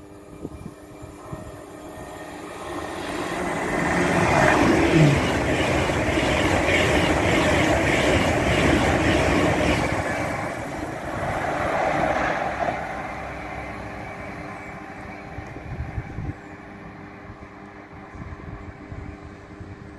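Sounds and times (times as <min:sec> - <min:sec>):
train passing at speed: 0:00.0 - 0:19.9.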